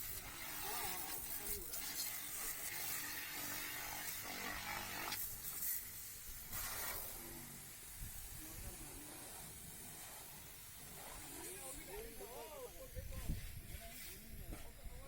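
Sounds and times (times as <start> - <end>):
pressure washer spraying water: 0.0 - 14.4.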